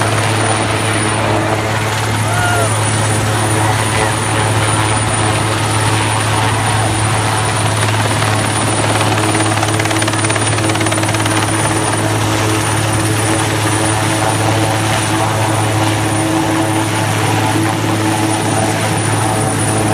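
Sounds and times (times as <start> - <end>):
helicopter drone: 0.0 - 19.9.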